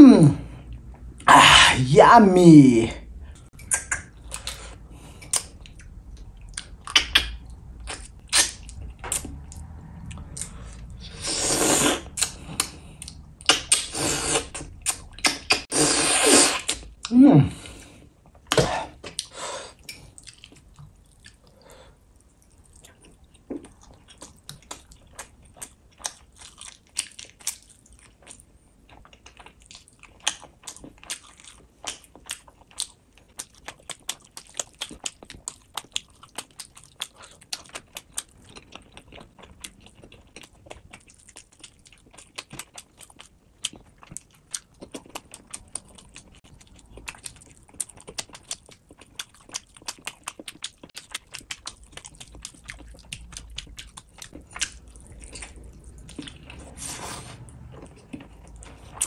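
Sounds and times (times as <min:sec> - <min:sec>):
wet chewing and lip smacks: 0:03.4 - 0:10.9, 0:12.1 - 0:15.7, 0:18.5 - 0:56.8.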